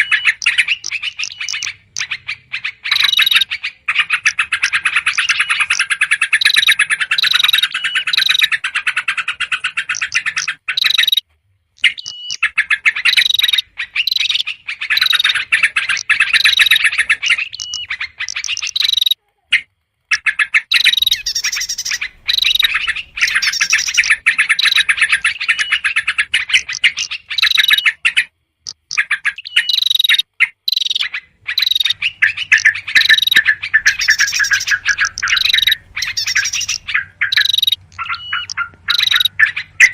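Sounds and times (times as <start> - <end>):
birds chattering rapidly: 0.0 - 39.9.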